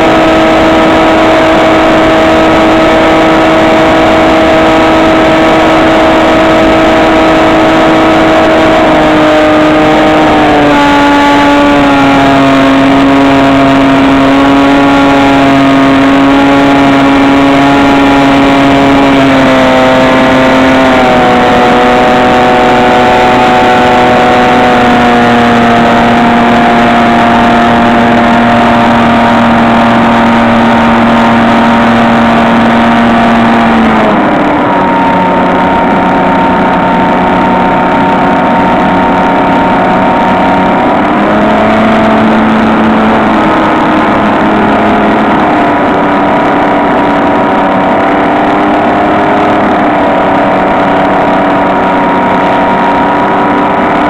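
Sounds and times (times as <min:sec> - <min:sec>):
model plane motor whine: 0:00.0 - 0:54.0.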